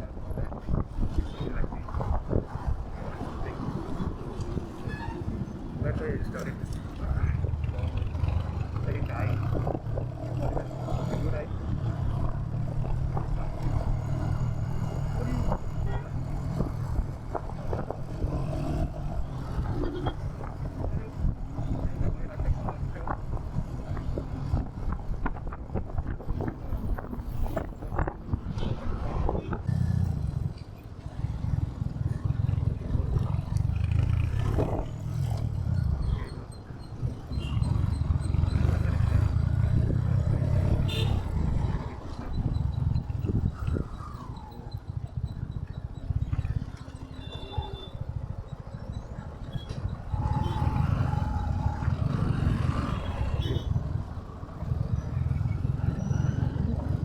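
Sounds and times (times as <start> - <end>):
passing traffic: 0.0 - 57.0.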